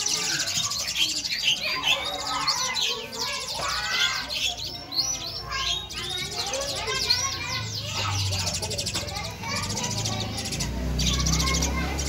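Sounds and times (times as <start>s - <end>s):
young starling chirping: 0.0s - 12.0s.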